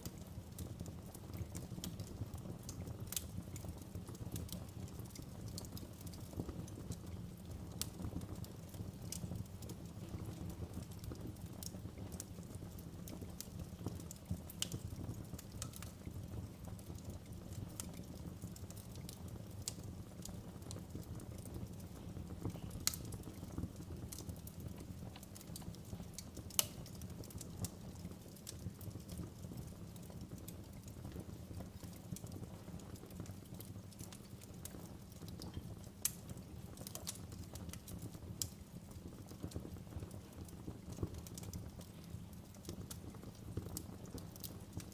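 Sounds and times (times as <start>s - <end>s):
fire crackling and popping: 0.0s - 44.9s
wood fire rumbling: 0.0s - 44.9s.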